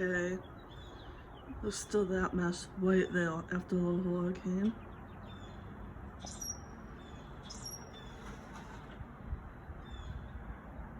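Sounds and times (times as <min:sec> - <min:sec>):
birds chirping: 0:00.0 - 0:10.9
low steady background hum: 0:00.0 - 0:10.9.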